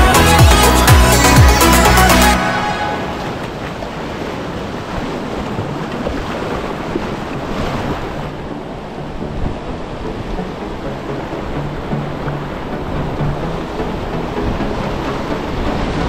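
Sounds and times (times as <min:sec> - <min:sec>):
river rapids rushing: 0:00.0 - 0:16.0.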